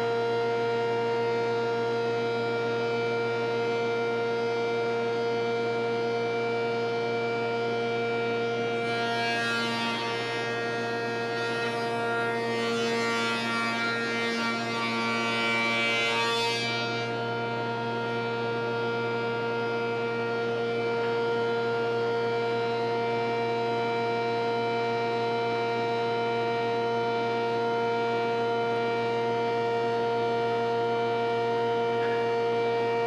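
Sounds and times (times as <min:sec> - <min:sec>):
spindle shaper whine: 0:00.0 - 0:33.0.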